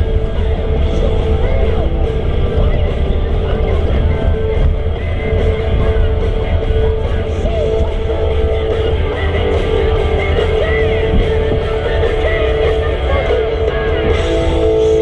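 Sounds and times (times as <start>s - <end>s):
rock music with electric guitar: 0.0s - 15.0s.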